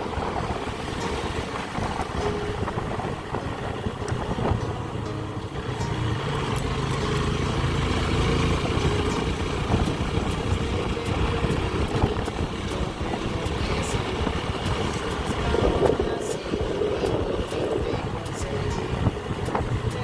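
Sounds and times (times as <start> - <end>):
motorcycle engine drone: 0.0 - 20.0
road and wind noise: 0.0 - 20.0.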